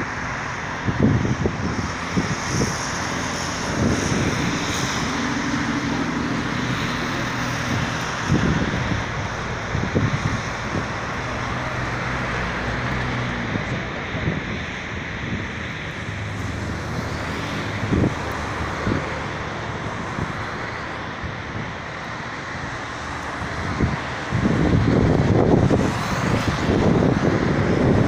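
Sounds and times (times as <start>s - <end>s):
distant city traffic hum: 0.0s - 28.0s
wind buffeting microphone: 0.0s - 28.0s.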